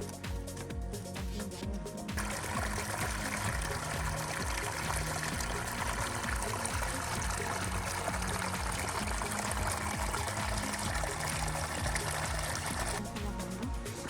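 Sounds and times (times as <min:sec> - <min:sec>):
music with low notes and beat: 0:00.0 - 0:14.0
stream trickling: 0:00.0 - 0:14.0.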